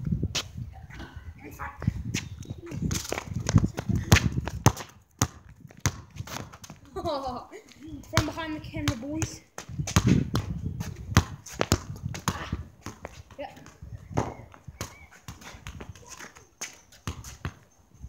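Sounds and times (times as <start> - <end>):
balls kicked and bouncing on asphalt: 0.0 - 18.0.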